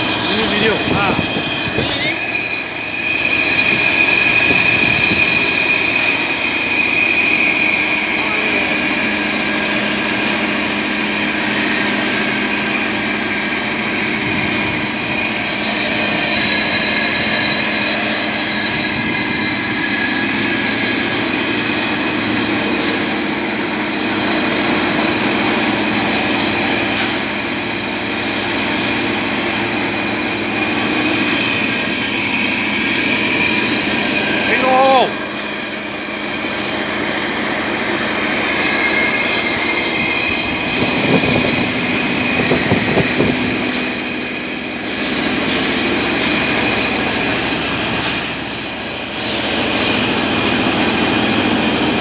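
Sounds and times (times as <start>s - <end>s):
air compressor running: 0.0s - 52.0s.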